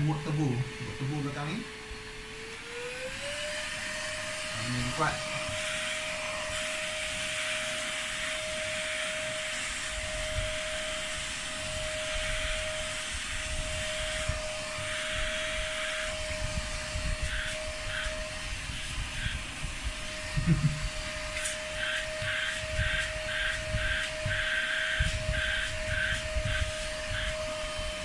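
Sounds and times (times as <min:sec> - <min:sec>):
vacuum cleaner whine: 0:00.0 - 0:28.0.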